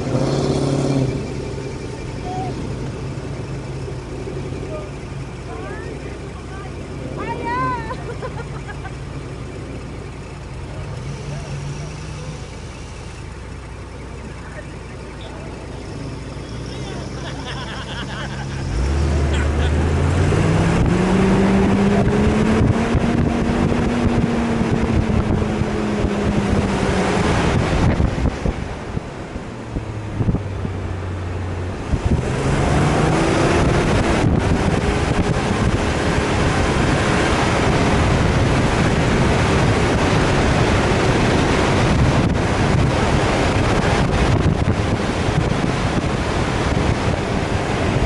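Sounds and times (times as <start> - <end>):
car engine revving high: 0.0 - 48.0
constant rushing noise: 0.0 - 48.0
off-road vehicle driving through sand: 0.0 - 48.0.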